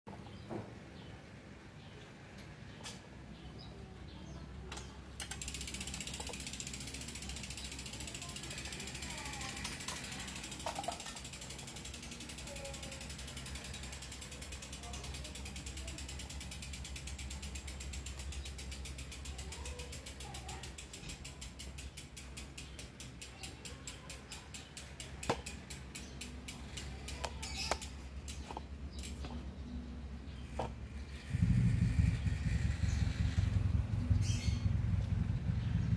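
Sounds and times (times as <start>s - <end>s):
bicycle freewheel ticking: 5.2s - 29.2s, 30.7s - 35.9s.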